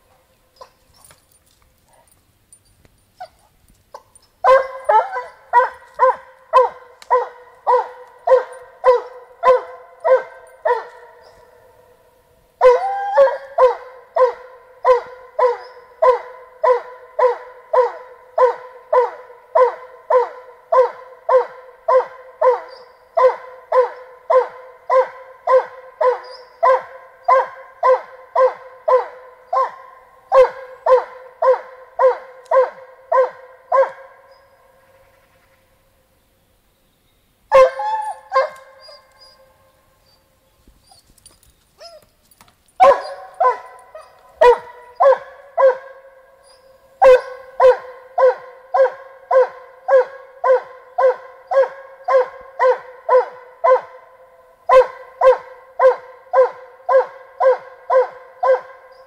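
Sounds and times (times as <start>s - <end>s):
hound barking: 3.2s - 34.6s, 37.5s - 40.2s, 42.8s - 59.0s.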